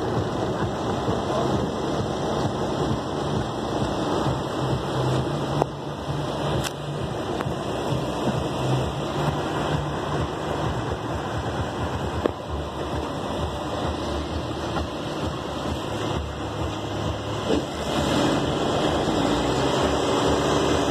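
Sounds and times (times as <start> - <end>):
boat engine running: 0.0 - 20.9
wind and water rushing: 0.0 - 20.9.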